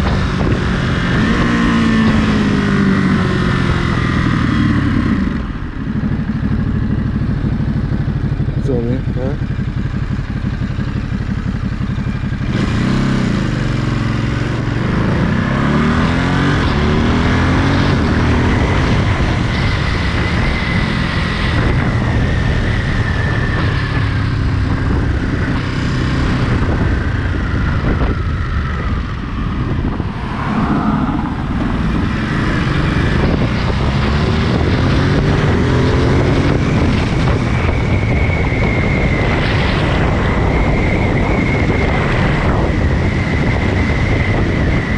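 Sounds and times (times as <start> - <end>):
motorcycle engine accelerating: 0.0 - 44.9
wind noise: 0.0 - 44.9.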